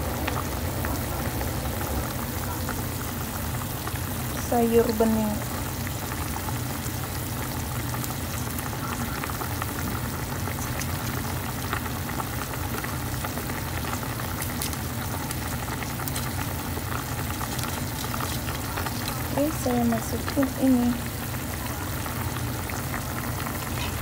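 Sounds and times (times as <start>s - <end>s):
soup boiling and bubbling: 0.0s - 24.0s.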